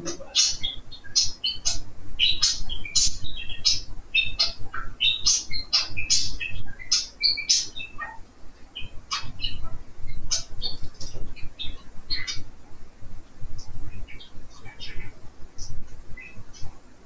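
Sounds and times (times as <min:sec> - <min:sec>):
budgerigars chirping and warbling: 0:00.0 - 0:12.8, 0:13.5 - 0:16.9.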